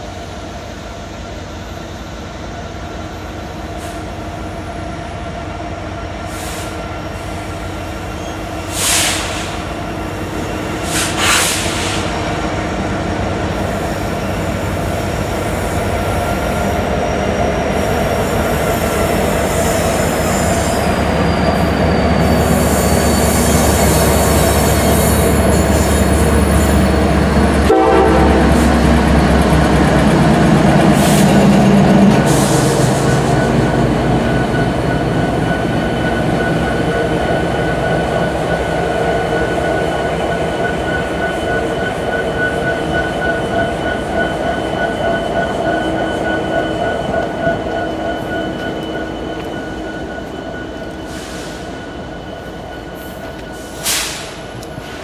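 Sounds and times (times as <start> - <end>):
diesel locomotive engines rumbling: 0.0 - 55.0
train wheels rolling on rails: 0.0 - 55.0.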